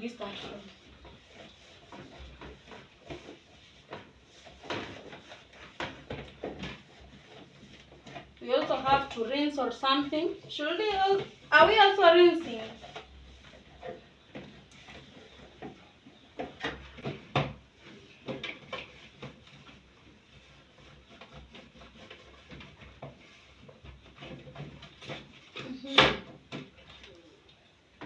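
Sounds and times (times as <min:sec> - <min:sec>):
fridge parts knocking and scraping: 0:00.0 - 0:27.0.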